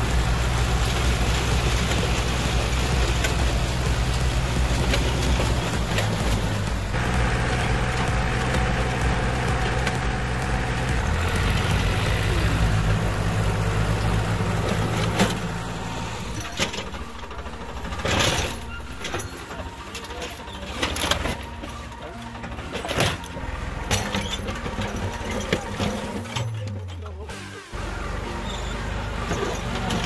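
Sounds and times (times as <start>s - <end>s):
diesel tractor engines under load: 0.0s - 30.0s
metal clanks and crunches: 0.2s - 27.4s.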